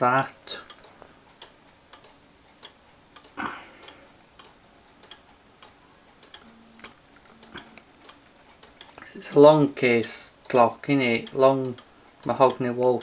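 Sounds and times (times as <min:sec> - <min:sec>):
wall clock ticking: 0:00.0 - 0:13.0.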